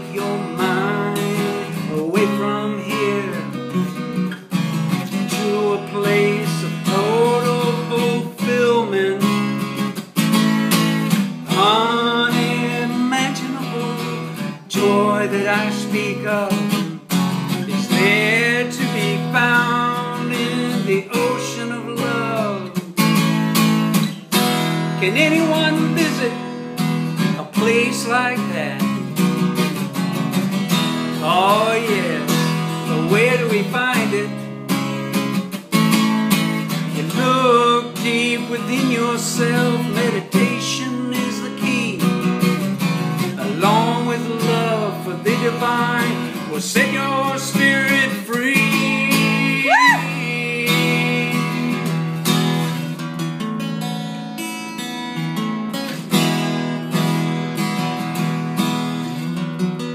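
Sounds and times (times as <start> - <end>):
man singing: 0.0 - 4.3, 4.9 - 10.0, 10.9 - 23.3, 25.0 - 29.9, 30.7 - 52.8
strummed acoustic guitar: 0.0 - 59.9.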